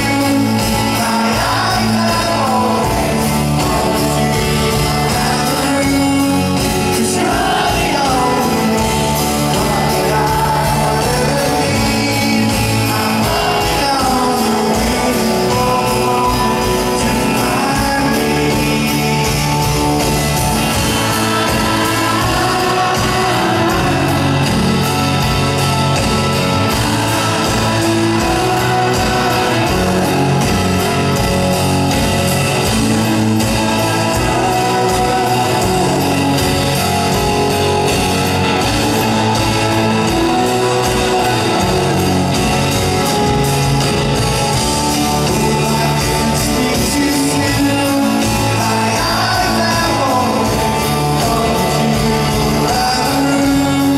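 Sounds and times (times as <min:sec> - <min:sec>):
drums: 0:00.0 - 0:53.9
man singing lead: 0:00.0 - 0:53.9
strummed acoustic guitar: 0:00.0 - 0:53.9.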